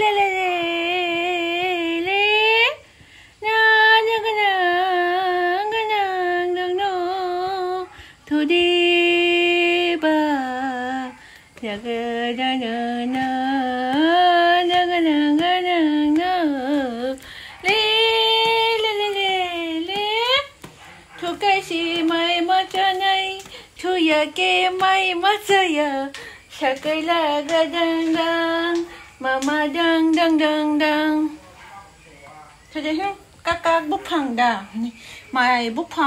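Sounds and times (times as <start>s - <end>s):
woman singing with vibrato: 0.0s - 31.4s, 32.8s - 36.0s.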